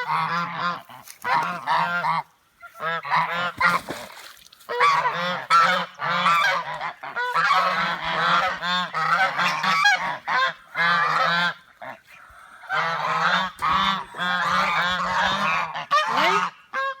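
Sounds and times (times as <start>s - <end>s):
geese honking: 0.0s - 3.8s, 4.7s - 17.0s.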